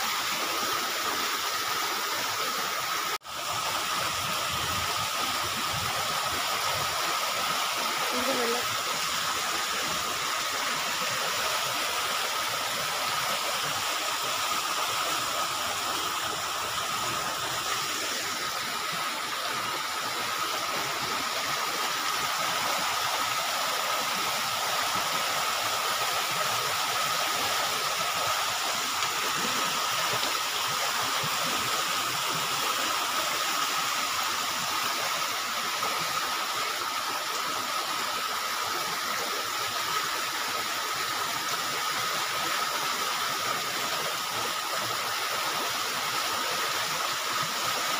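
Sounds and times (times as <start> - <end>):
floodwater rushing: 0.0 - 42.7.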